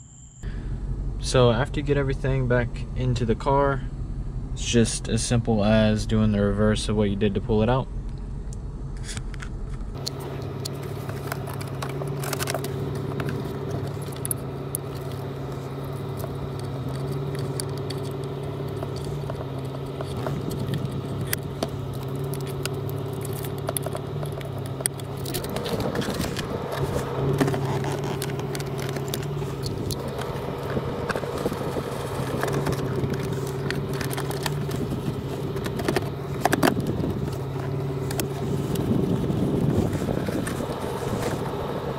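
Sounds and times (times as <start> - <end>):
car engine droning: 0.0 - 41.9.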